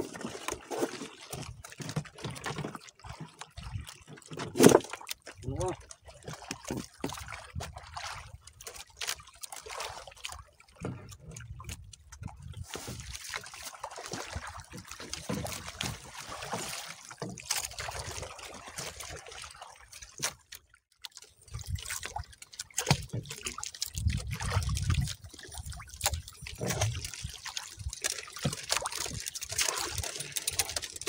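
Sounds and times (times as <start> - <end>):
water sloshing against hull: 0.0 - 31.0.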